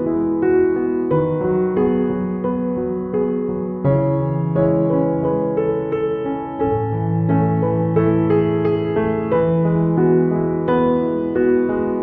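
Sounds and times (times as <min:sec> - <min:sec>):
gentle keyboard melody: 0:00.0 - 0:12.0.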